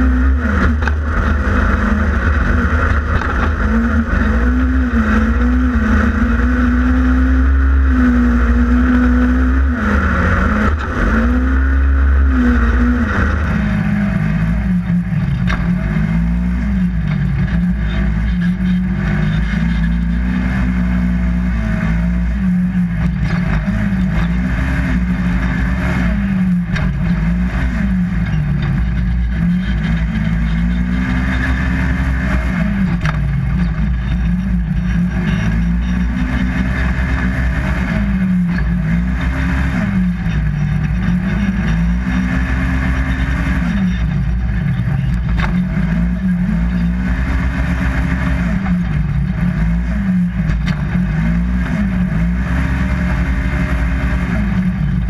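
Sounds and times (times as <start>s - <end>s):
engine revving: 0.0s - 55.0s.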